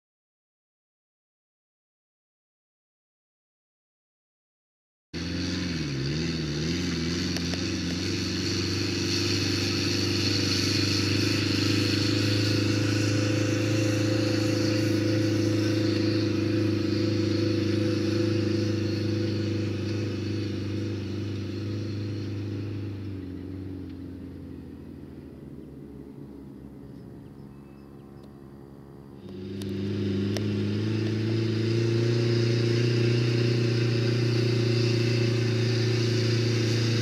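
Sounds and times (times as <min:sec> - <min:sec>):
crop sprayer engine hum: 0:05.2 - 0:37.0.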